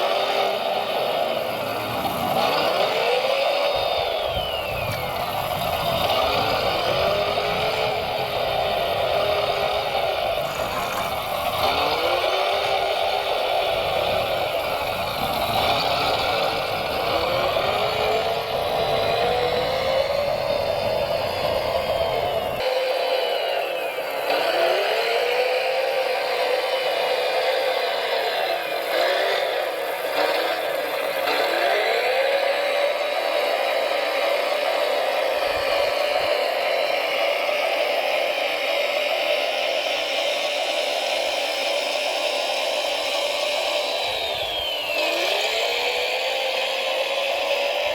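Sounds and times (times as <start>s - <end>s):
electric motor whining: 0.0s - 37.2s, 39.1s - 47.9s.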